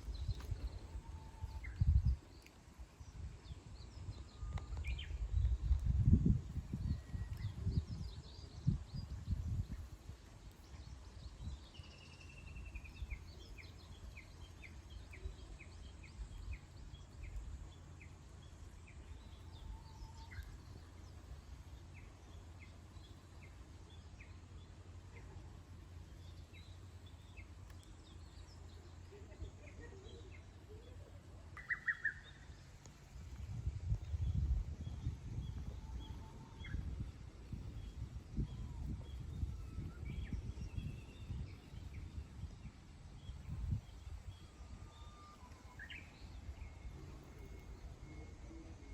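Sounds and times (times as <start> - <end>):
low background rumble: 0.0 - 48.9
wild birds singing: 0.0 - 48.9.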